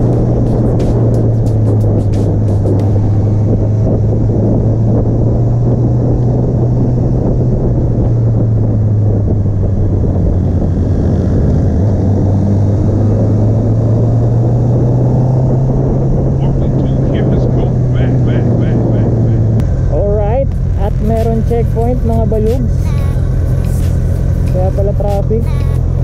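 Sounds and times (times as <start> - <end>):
motorcycle engine cruising: 0.0 - 26.0
wind noise: 0.0 - 26.0.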